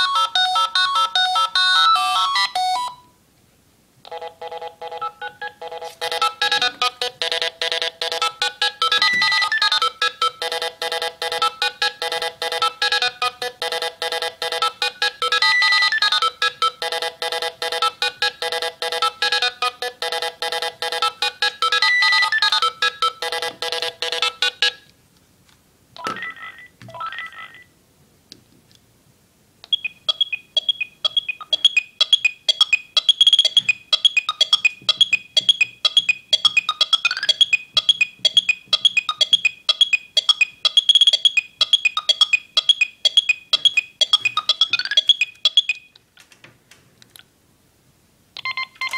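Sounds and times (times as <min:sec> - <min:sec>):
fast synthesized ringtone melody: 0:00.0 - 0:03.1, 0:04.1 - 0:24.9, 0:29.8 - 0:45.9
high beeping ringtone: 0:00.0 - 0:03.1, 0:04.1 - 0:24.9, 0:26.0 - 0:27.7, 0:29.7 - 0:46.0, 0:48.4 - 0:48.9.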